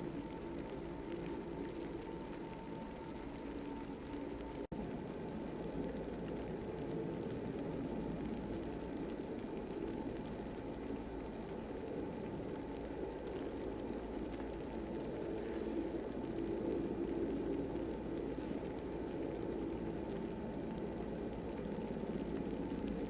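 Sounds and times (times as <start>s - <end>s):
blizzard wind rumble: 0.0s - 23.0s.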